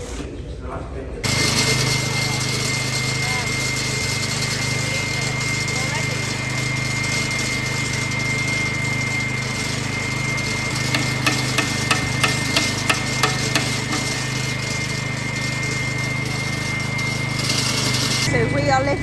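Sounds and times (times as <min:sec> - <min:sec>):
concrete saw engine drone: 0:01.2 - 0:19.0
saw blade high whine: 0:01.2 - 0:19.0.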